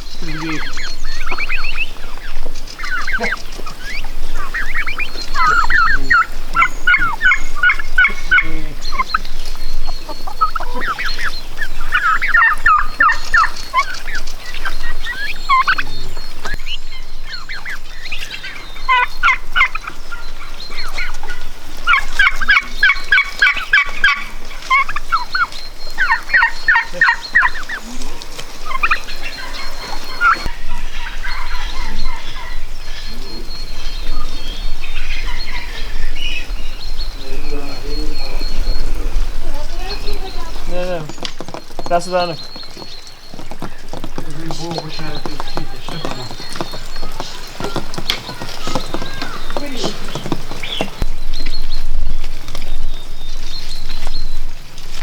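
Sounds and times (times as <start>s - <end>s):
turkeys gobbling: 0.0s - 55.0s.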